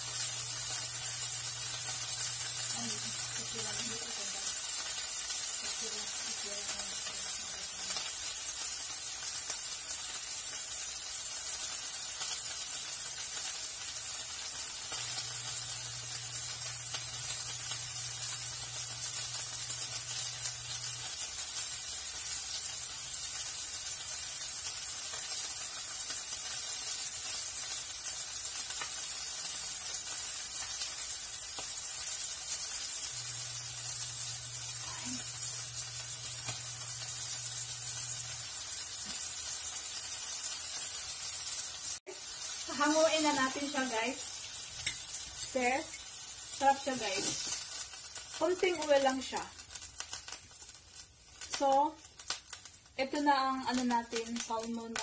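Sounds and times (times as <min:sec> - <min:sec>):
fish sizzling in a pan: 0:00.0 - 0:55.0.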